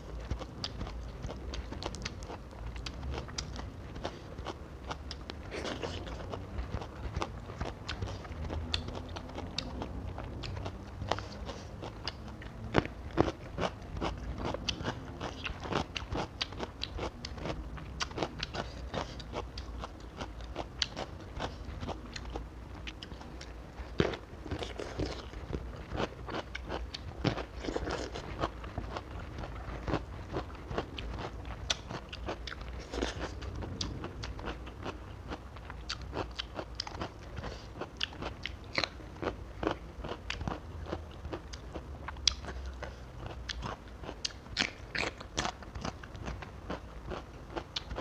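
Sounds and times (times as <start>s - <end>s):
person chewing crisp cucumber: 0.0s - 48.0s.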